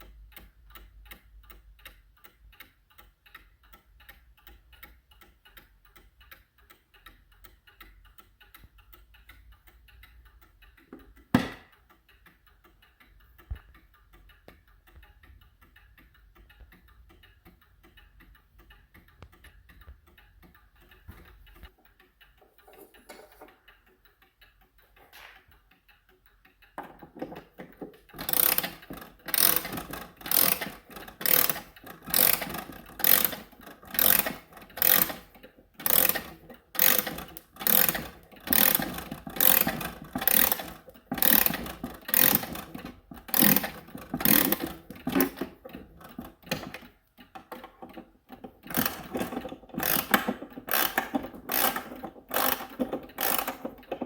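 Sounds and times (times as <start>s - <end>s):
clock winding ratchet clicks: 0.0s - 54.0s.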